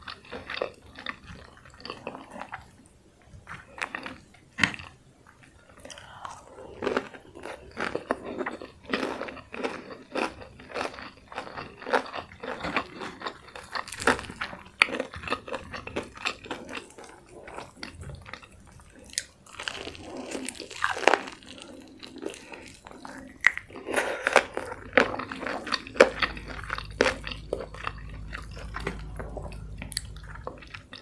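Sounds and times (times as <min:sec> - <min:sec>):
chewing crispy fried chicken: 0:00.0 - 0:31.0.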